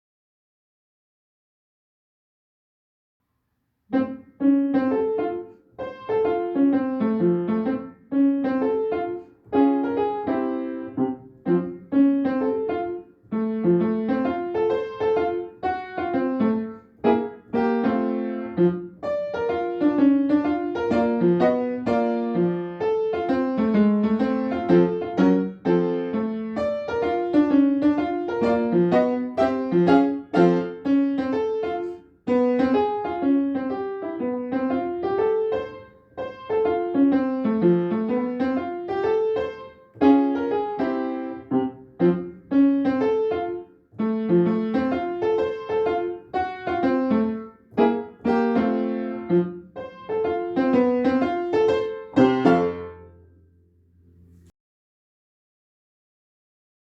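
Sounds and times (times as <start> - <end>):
solo piano playing quick phrases: 3.9 - 54.5.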